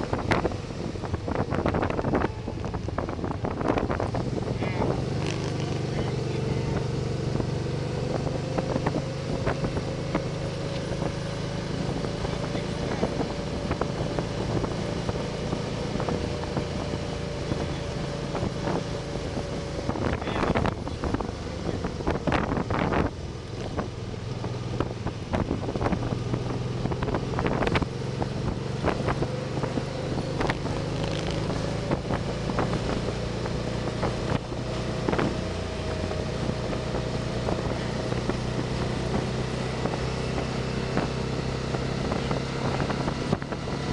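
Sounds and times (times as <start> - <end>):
motorcycle engine cruising: 0.0 - 43.9
wind on microphone: 0.0 - 43.9.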